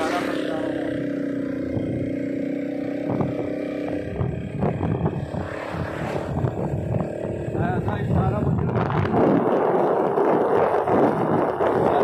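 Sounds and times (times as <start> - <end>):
motorcycle engine humming: 0.0 - 12.0
wind and road noise: 0.0 - 12.0.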